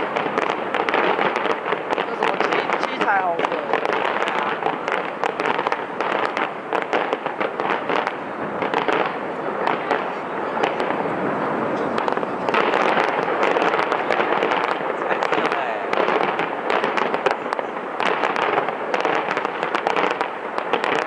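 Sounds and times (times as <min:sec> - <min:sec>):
continuous rumble: 0:00.0 - 0:21.0
fireworks bangs and crackles: 0:00.0 - 0:21.0.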